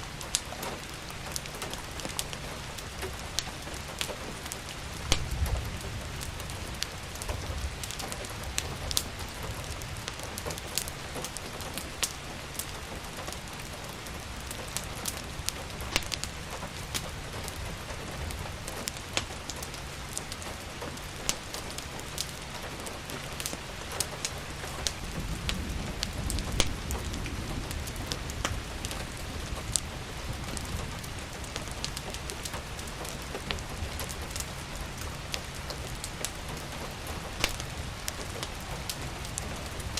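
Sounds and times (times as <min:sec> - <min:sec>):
rain falling: 0:00.0 - 0:39.9
wood fire crackling: 0:00.0 - 0:39.9.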